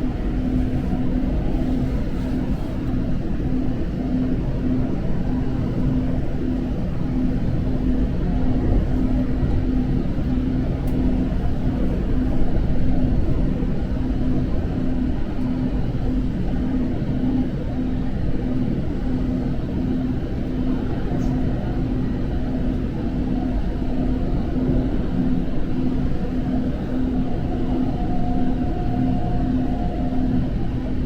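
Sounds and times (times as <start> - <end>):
train rumble inside carriage: 0.0 - 31.0.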